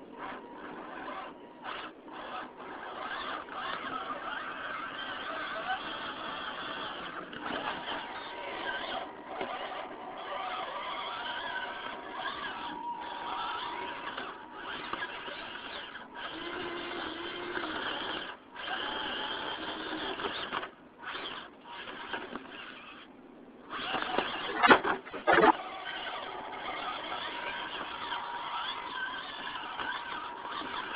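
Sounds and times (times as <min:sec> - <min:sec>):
electric motor whining: 0:00.0 - 0:30.9.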